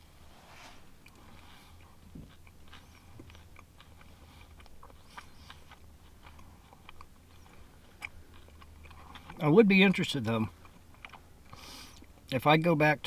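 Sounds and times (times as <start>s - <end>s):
crunchy chewing: 0.9s - 12.4s.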